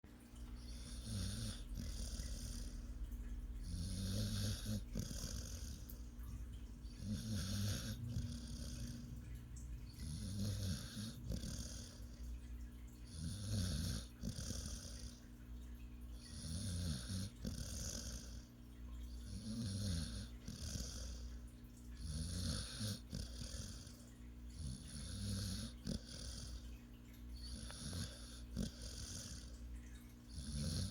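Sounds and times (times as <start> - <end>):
dog snoring: 0.5 - 6.1, 6.9 - 12.3, 13.0 - 15.2, 16.2 - 18.5, 19.1 - 21.3, 22.0 - 26.7, 27.4 - 29.6, 30.3 - 30.9.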